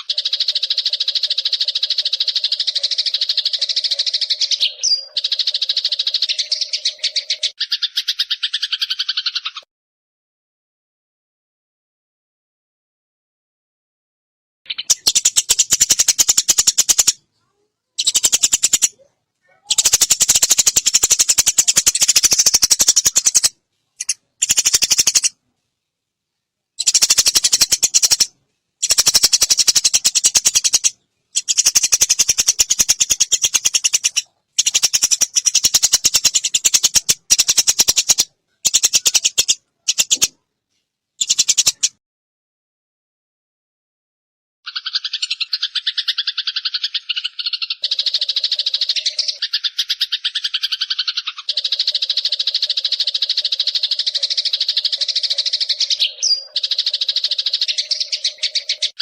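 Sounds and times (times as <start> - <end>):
sparrow rattling chatter calls: 0.0 - 9.6, 14.7 - 17.2, 18.0 - 25.4, 26.8 - 40.4, 41.2 - 42.0, 44.7 - 59.0.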